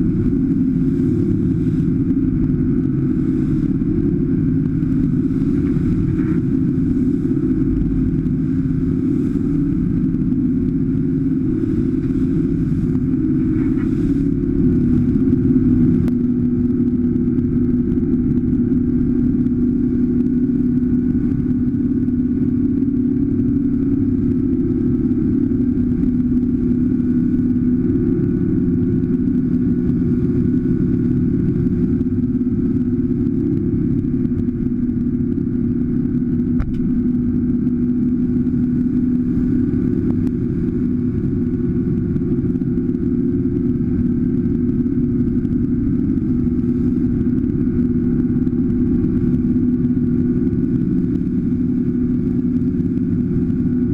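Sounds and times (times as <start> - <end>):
engine droning: 0.0 - 53.9.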